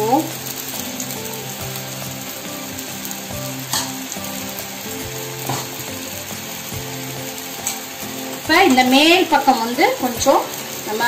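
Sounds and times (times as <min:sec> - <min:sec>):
dosa sizzling on a griddle: 0:00.0 - 0:11.0
soft tune: 0:00.0 - 0:11.0.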